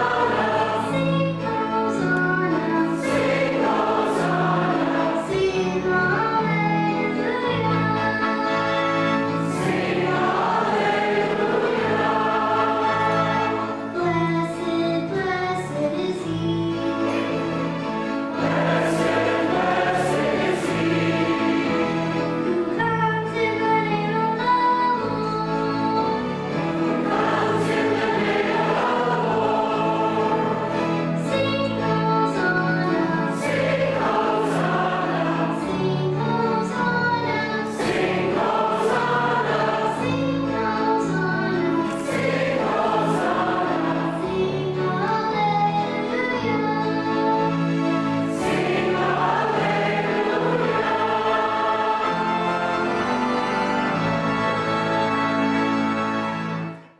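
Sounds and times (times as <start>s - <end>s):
instrumental accompaniment: 0.0s - 56.9s.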